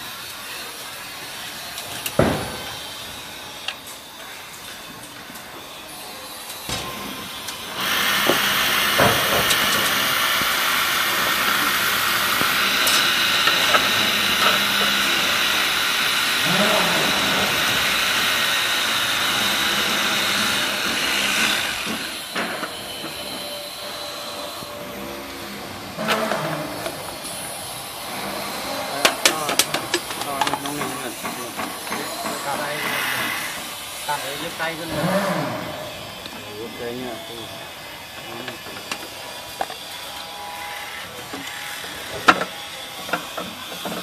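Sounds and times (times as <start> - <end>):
angle grinder cutting steel: 0.0 - 44.0.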